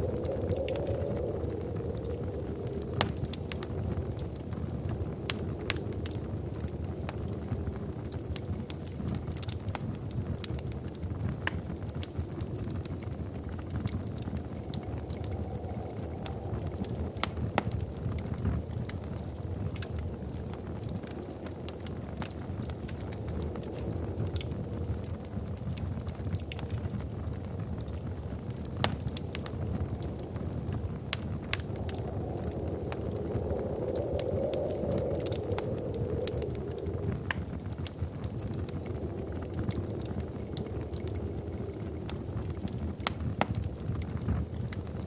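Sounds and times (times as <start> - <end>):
fire crackling and popping: 0.0 - 45.0
wood fire rushing: 0.0 - 45.0.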